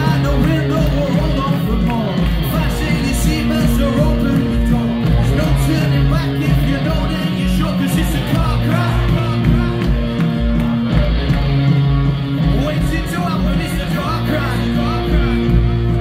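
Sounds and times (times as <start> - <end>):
person singing: 0.0 - 11.1, 12.4 - 16.0
rock band playing live: 0.0 - 16.0.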